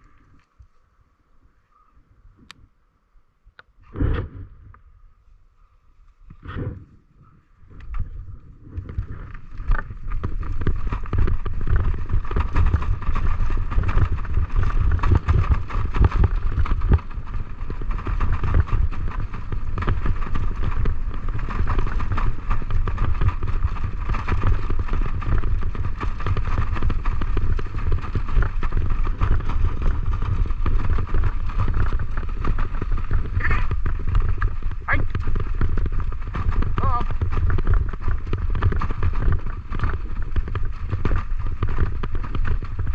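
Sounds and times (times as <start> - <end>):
wind rushing over microphone: 3.8 - 5.0, 6.2 - 42.9
wheels rolling: 3.8 - 42.9
dogs' running paws: 6.1 - 42.9.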